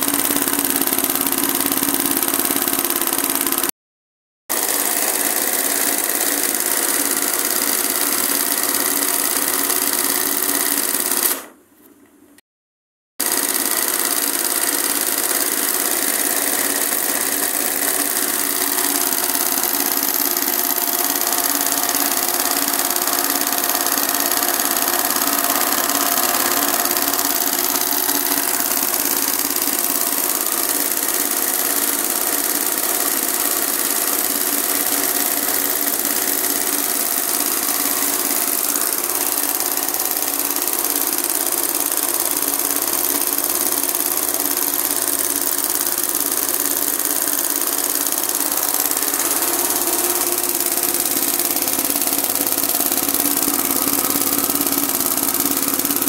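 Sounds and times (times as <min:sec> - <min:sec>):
embroidery machine stitching: 0:00.0 - 0:03.7, 0:04.5 - 0:11.6, 0:13.2 - 0:56.0.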